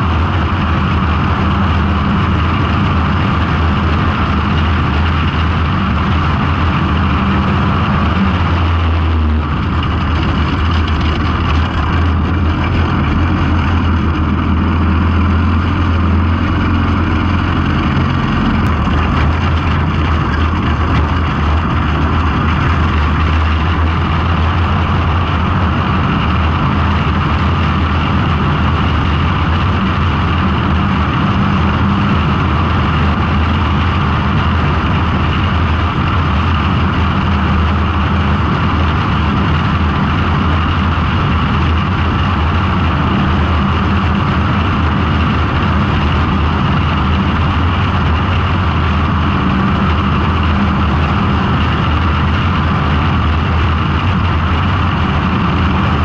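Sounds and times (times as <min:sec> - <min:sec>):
race car engine running: 0:00.0 - 0:56.0
wind noise: 0:00.0 - 0:56.0.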